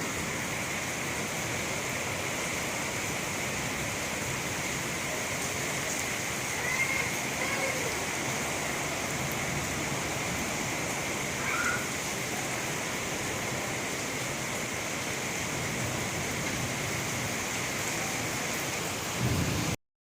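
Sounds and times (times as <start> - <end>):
heavy rain: 0.0 - 19.8.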